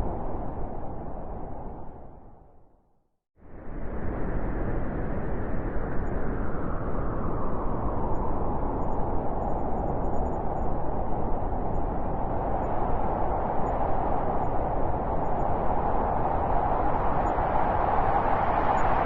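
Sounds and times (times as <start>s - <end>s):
blizzard wind howling: 0.0s - 2.8s, 3.4s - 19.0s.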